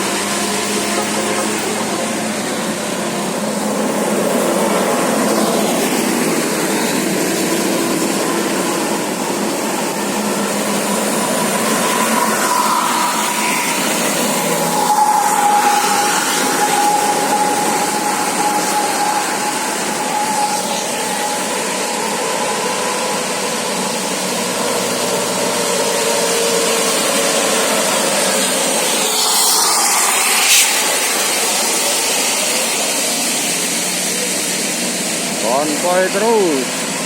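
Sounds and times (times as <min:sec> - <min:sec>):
faint steady whistling tone: 0:00.0 - 0:37.0
road traffic roar: 0:00.0 - 0:37.0.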